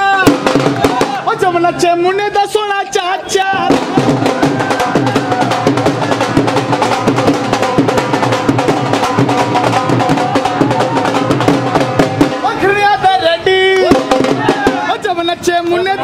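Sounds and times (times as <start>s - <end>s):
fast drum beat: 0.0s - 2.0s, 3.5s - 15.5s.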